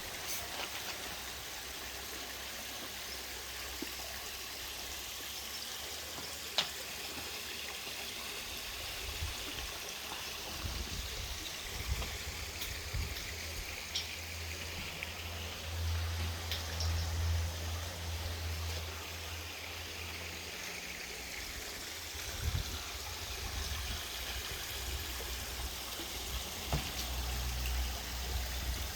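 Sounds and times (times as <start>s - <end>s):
water trickling down waterfall: 0.0s - 28.9s.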